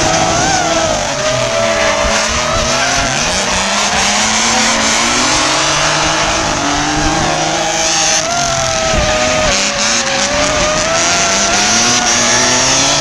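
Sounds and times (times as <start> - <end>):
car engines revving: 0.0 - 13.0
drone motors whining: 0.0 - 13.0
tyres squealing and skidding: 0.0 - 13.0.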